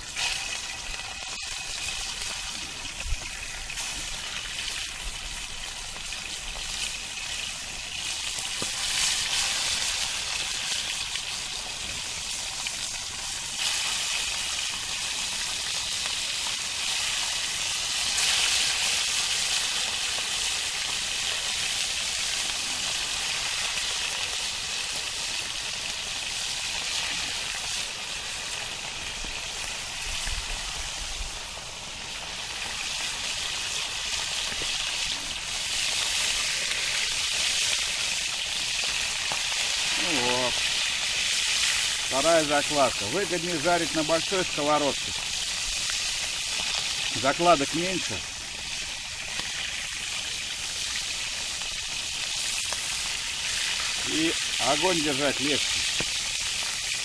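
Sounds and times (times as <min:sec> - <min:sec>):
fish frying in hot oil: 0:00.0 - 0:57.0.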